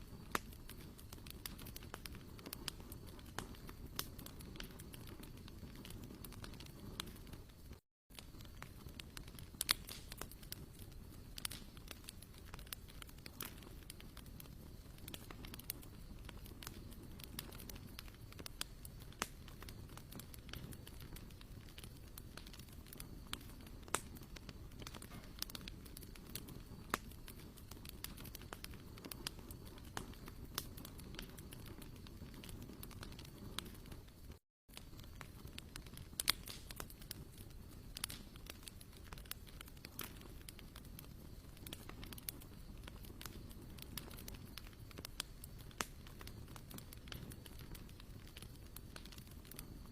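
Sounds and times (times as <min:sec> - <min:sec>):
campfire crackling: 0:00.0 - 0:49.9
low rumble of flames: 0:00.0 - 0:49.9
sharp fire pops: 0:00.0 - 0:49.9.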